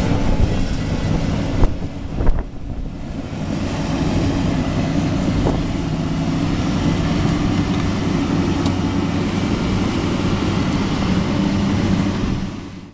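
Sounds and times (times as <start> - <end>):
diesel engine running steadily: 0.0 - 12.9.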